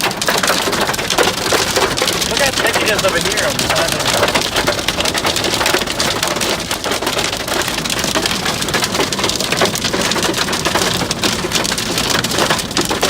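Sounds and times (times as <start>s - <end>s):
hail pelting a car roof: 0.0s - 13.0s.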